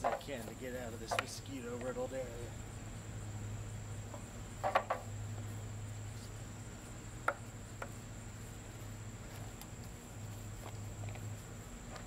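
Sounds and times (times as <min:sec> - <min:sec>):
crickets chirring: 0:00.0 - 0:12.0
low steady hum: 0:00.0 - 0:12.0.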